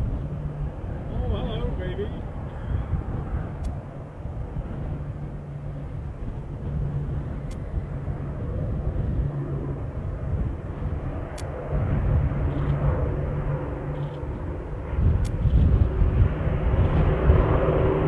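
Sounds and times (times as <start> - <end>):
piston aircraft engines droning: 0.0 - 18.0.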